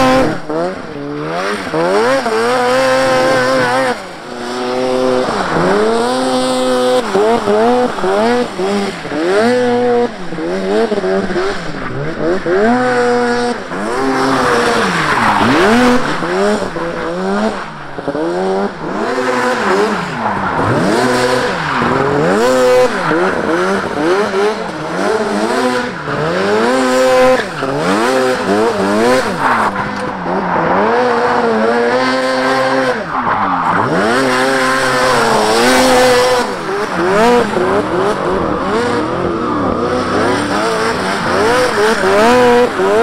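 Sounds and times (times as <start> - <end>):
two-stroke engine revving hard: 0.0 - 43.0
tyres skidding: 0.0 - 43.0.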